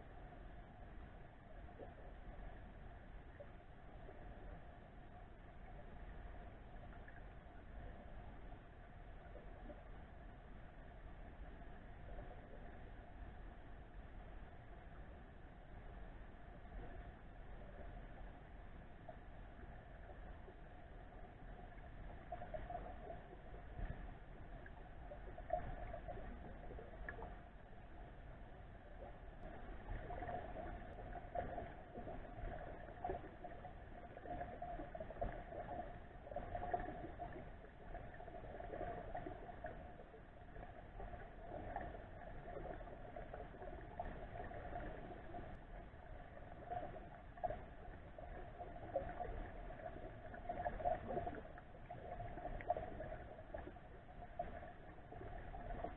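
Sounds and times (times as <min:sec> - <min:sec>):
muffled underwater water noise: 0:00.0 - 0:55.9.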